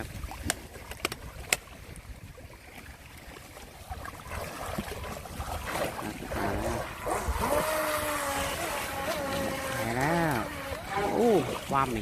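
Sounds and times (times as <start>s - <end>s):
sea water washing: 0.0s - 12.0s.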